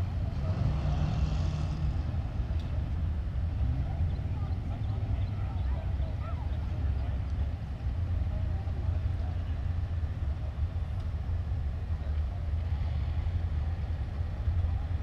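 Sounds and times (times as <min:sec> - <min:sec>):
drag car engines rumbling: 0:00.0 - 0:15.0
faint distant voices: 0:00.0 - 0:15.0.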